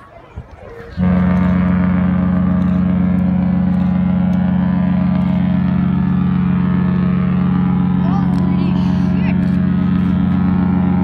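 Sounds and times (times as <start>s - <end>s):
deep ship horn blast: 0.9s - 11.0s.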